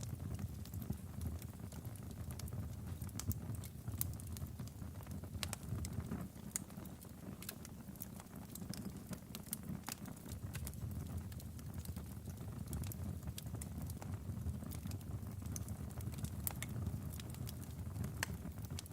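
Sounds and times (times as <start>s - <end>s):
fire crackling and popping: 0.0s - 18.9s
low rumble of flames: 0.0s - 18.9s.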